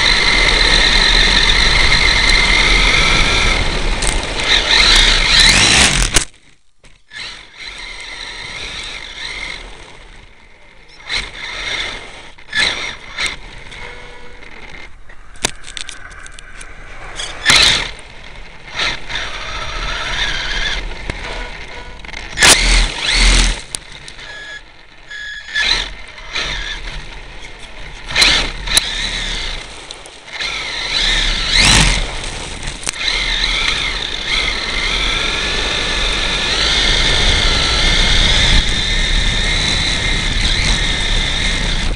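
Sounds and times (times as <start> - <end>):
electric motor whine: 0.0 - 6.3, 7.1 - 41.9.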